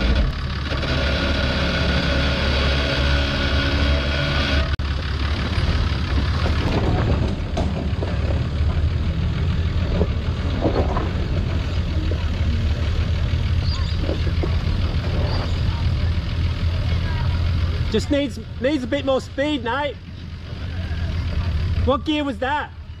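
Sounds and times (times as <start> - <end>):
truck engine running at low revs: 0.0 - 23.0.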